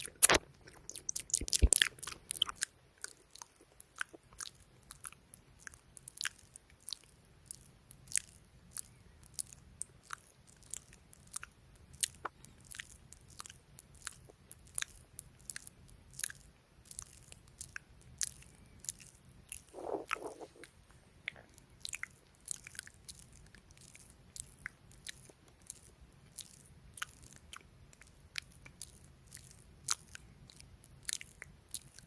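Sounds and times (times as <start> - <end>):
tongue and lip clicks: 0.0 - 32.0.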